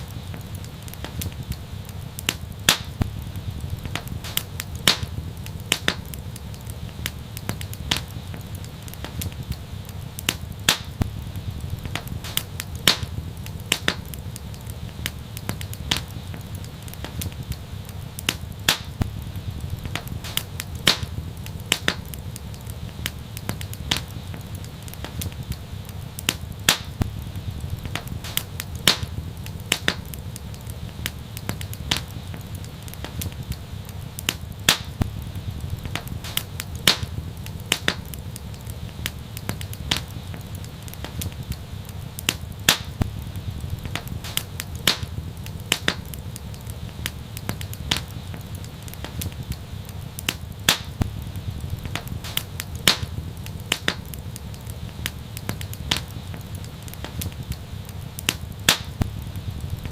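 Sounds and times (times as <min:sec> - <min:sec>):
low steady rumble: 0:00.0 - 0:58.3, 0:58.9 - 0:59.9
wood fire crackling and popping: 0:00.0 - 0:59.9.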